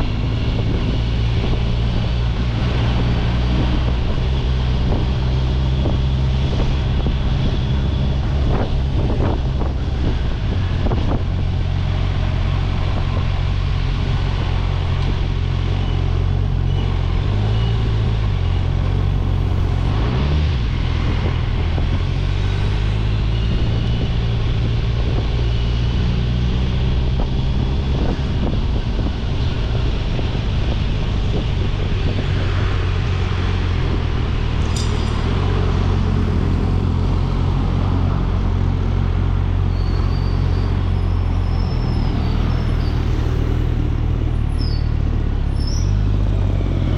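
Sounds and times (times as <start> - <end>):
wind noise on microphone: 0.0 - 46.9.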